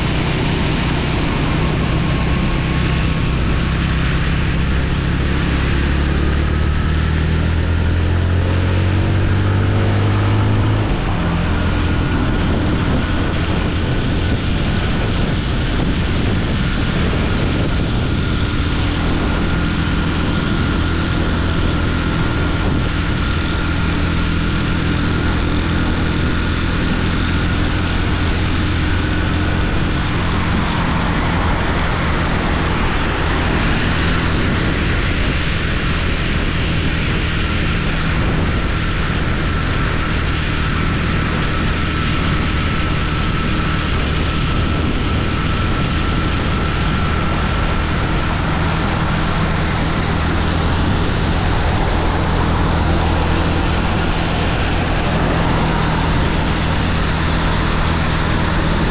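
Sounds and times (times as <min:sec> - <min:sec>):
motorcycle engine running: 0:00.0 - 0:58.9
wind and road noise: 0:00.0 - 0:58.9.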